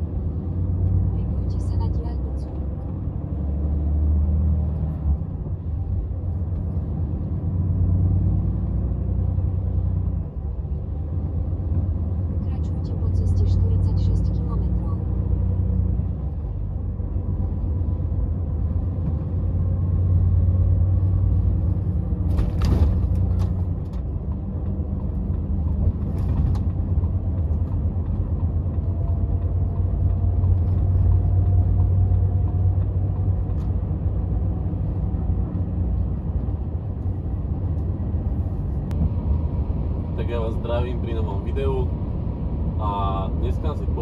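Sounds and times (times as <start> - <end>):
truck diesel engine rumble: 0.0 - 44.0.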